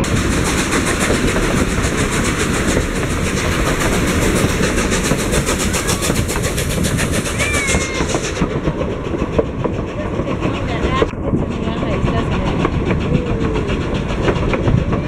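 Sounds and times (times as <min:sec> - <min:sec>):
train rolling along track: 0:00.0 - 0:15.0.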